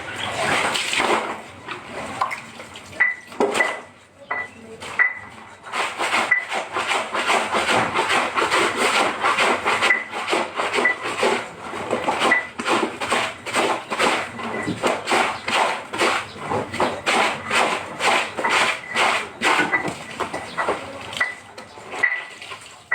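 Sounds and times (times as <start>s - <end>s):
clothes scrubbed by hand: 0.0s - 3.0s, 5.6s - 22.9s.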